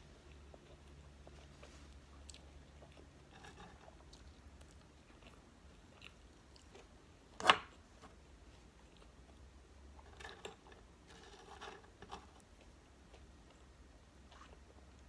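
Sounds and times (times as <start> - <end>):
person chewing food: 0.1 - 7.8, 10.2 - 15.0.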